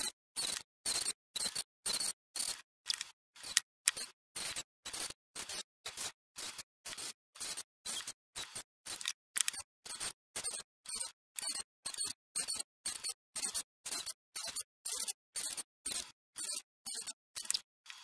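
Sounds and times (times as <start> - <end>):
rotary tool engraving wood: 0.0 - 18.0.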